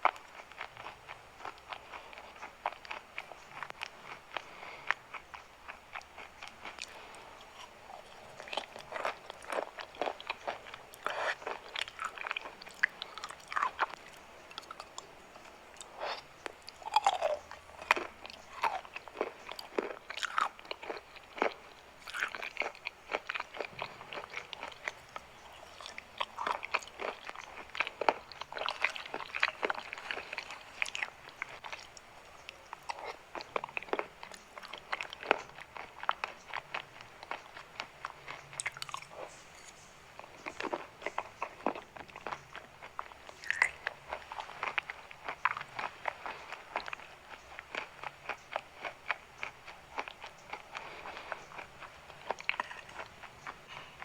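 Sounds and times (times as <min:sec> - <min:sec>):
chalk being chewed: 0:00.0 - 0:54.0.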